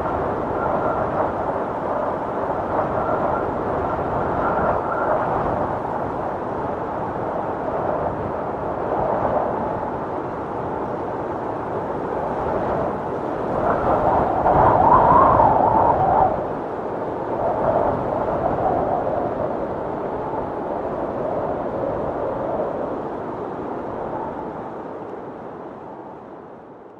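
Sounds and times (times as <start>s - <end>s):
storm wind blowing in gusts: 0.0s - 26.9s.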